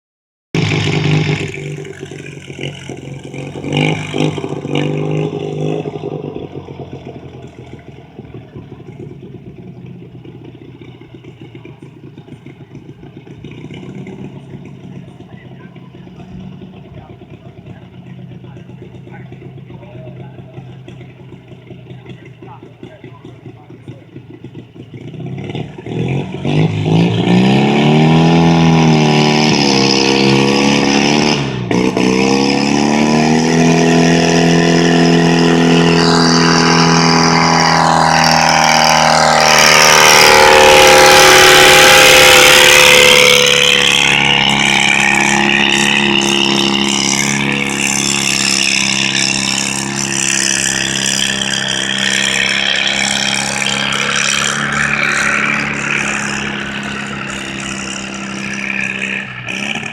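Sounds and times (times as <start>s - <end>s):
garden tractor engine revving: 0.5s - 59.9s.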